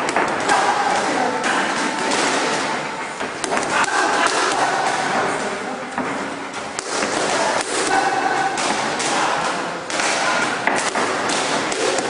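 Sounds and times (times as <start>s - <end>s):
boxing gloves striking mitts: 0.0s - 5.1s, 6.0s - 12.0s.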